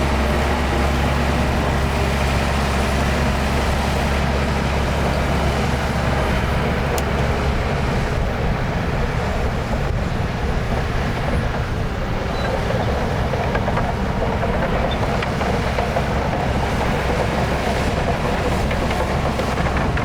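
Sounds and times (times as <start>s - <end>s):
heavy diesel machinery drone: 0.0s - 20.0s.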